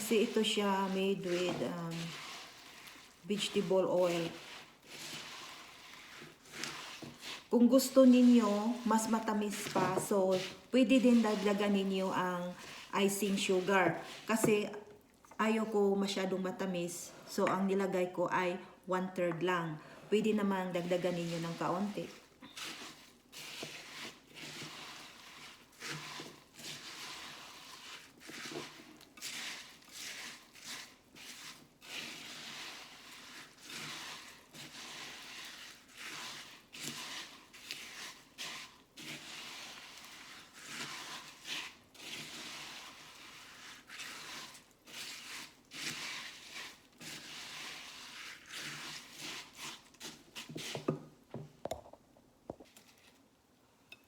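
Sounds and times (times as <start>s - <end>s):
spoon scraping crackly mix in bowl: 0.0s - 16.5s, 20.2s - 51.9s, 52.5s - 53.3s.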